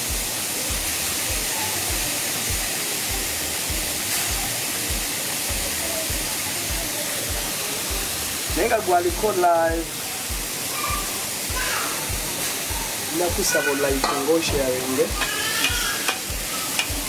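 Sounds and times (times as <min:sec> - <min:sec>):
background music with low beat: 0:00.0 - 0:17.0
steady hiss: 0:00.0 - 0:17.0.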